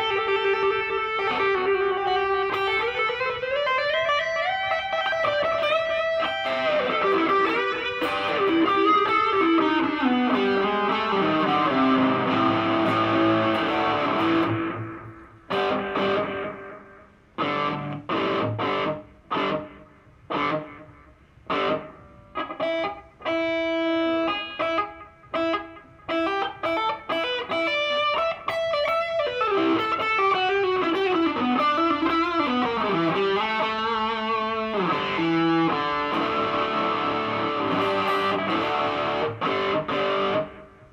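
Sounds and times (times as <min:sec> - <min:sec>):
electric guitar playing: 0:00.0 - 0:40.9.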